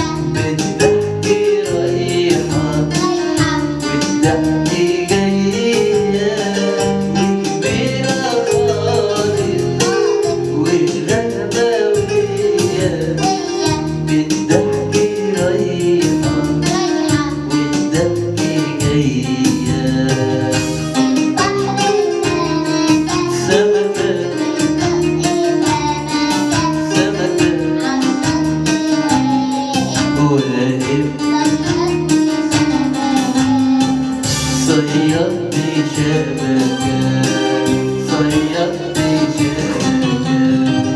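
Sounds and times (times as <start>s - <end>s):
music with singing: 0.0s - 40.9s
percussion beat: 0.0s - 40.9s.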